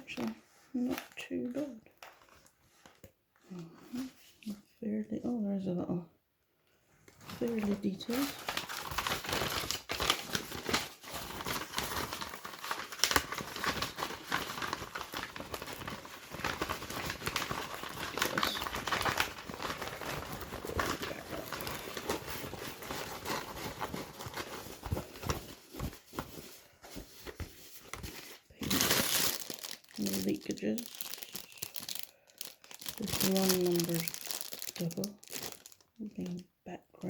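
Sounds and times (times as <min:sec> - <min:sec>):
packaging crinkling and rustling: 0:00.1 - 0:03.2, 0:07.1 - 0:36.4.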